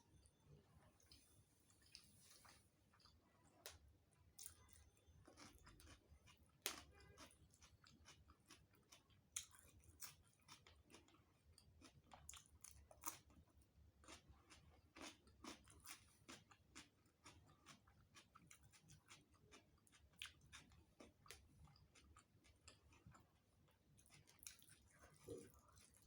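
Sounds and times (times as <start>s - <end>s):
chewing with wet mouth clicks: 2.9s - 13.4s, 14.0s - 26.0s.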